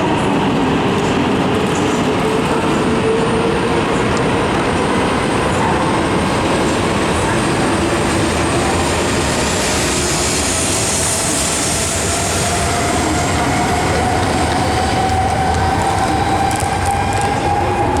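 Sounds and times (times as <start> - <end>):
rising train whine: 0.0 - 18.0
train rumbling on rails: 0.0 - 18.0.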